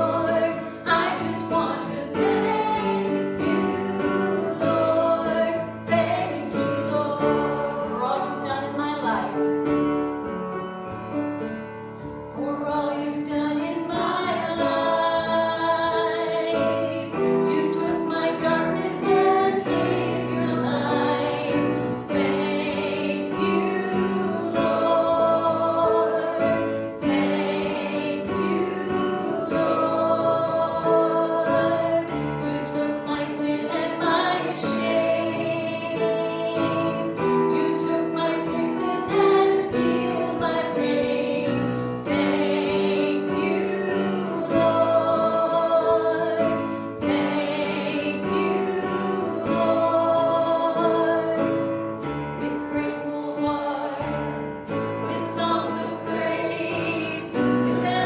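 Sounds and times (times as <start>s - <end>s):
congregation singing a hymn: 0.0s - 58.0s
instrumental accompaniment: 0.0s - 58.0s.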